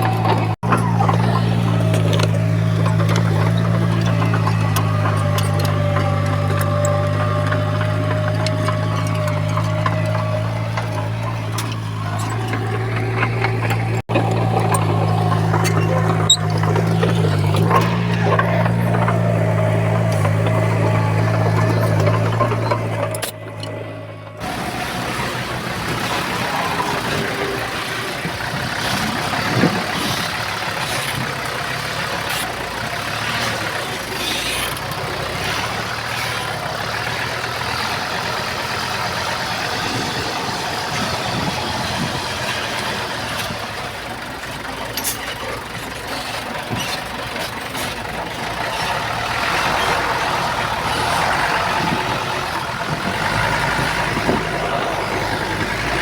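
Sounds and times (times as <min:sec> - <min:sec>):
diesel engine running: 0:00.0 - 0:56.0
machinery clanks and knocks: 0:00.0 - 0:56.0.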